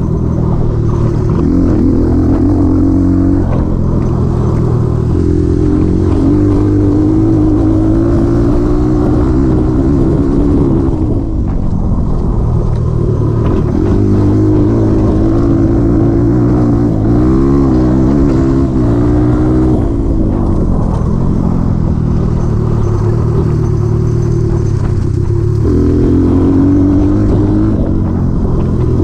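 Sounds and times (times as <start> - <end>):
dirt bike engine revving: 0.0 - 11.3, 13.3 - 20.8, 21.4 - 29.0.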